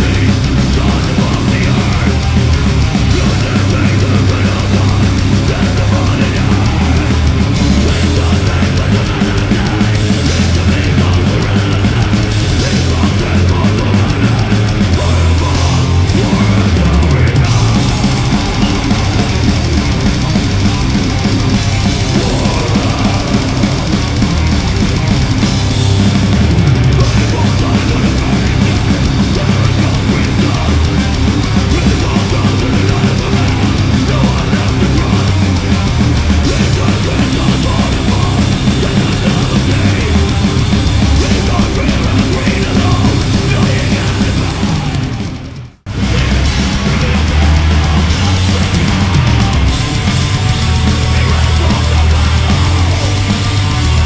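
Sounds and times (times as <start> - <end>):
distorted guitars: 0.0 - 54.0
drums: 0.0 - 54.0
heavy metal music: 0.0 - 54.0.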